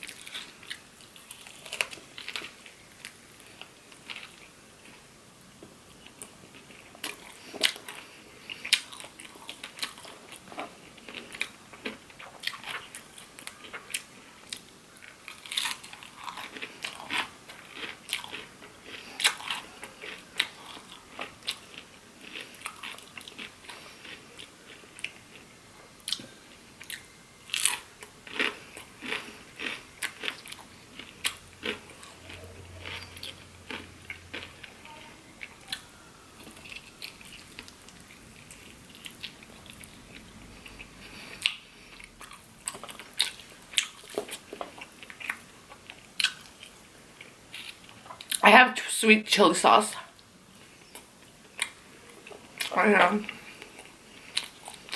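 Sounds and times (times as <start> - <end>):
person chewing crunchy food: 0.0 - 48.4, 50.2 - 54.9.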